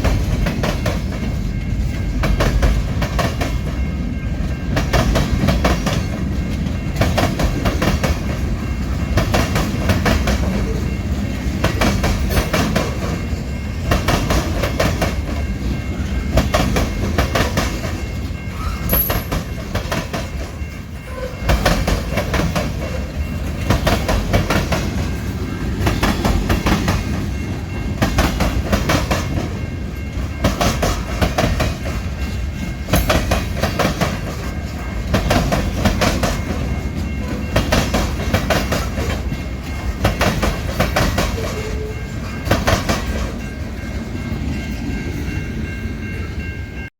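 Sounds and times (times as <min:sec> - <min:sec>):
train wheels clicking over rail joints: 0:00.0 - 0:45.4
train rolling rumble: 0:00.0 - 0:46.9.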